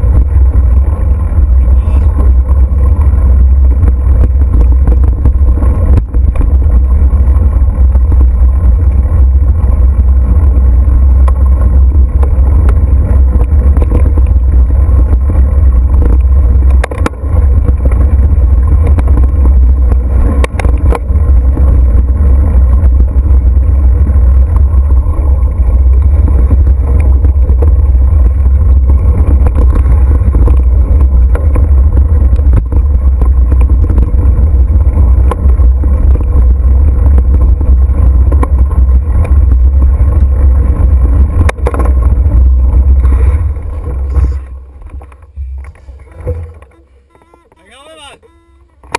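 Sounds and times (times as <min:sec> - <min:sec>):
wind buffeting microphone: 0:00.0 - 0:46.8.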